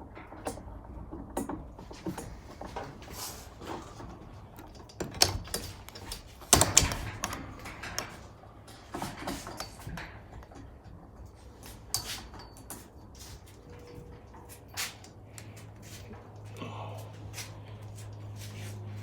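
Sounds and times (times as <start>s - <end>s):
clicks and clanks of hand tools: 0.0s - 16.4s.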